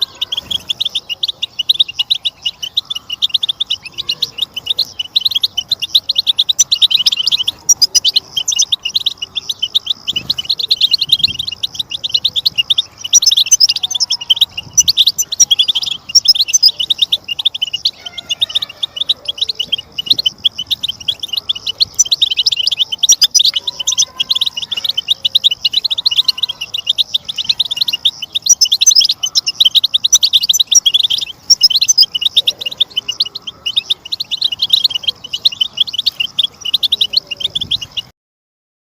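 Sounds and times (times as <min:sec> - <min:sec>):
goldfinches twittering: 0:00.0 - 0:38.1.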